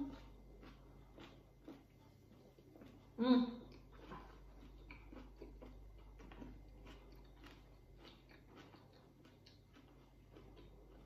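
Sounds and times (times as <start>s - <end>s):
close-mouthed chewing: 0.0s - 11.0s.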